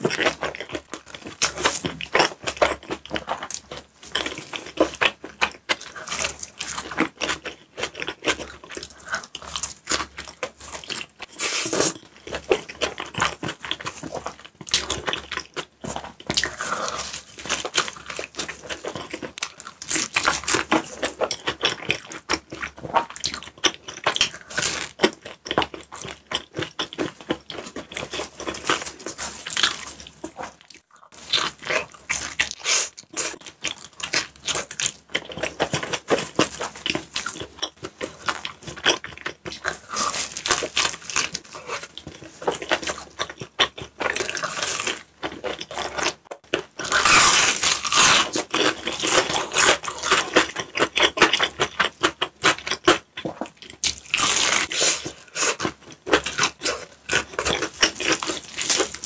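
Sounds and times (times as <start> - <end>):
person chewing bread: 0.0 - 59.0.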